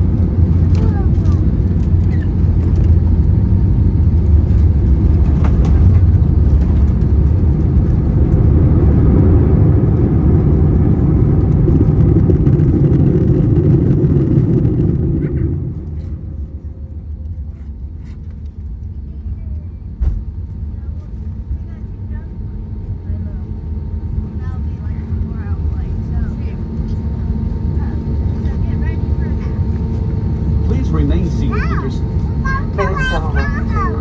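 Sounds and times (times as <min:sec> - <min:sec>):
deep rumble of jet engines and wheels: 0:00.0 - 0:34.0.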